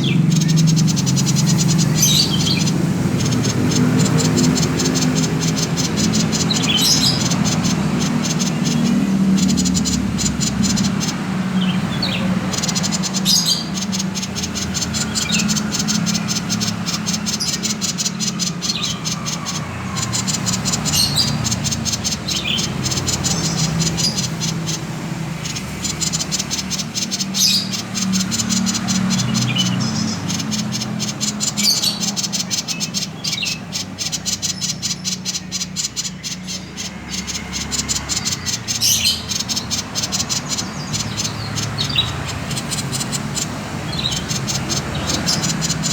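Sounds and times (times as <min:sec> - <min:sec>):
bird ticking chatter: 0:00.0 - 0:45.9.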